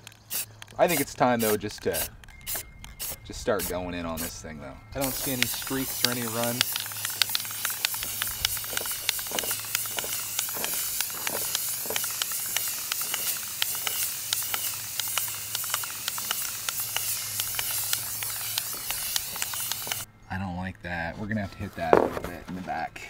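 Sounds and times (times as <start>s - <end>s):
spray paint can hissing: 0.0s - 4.4s, 5.0s - 20.1s.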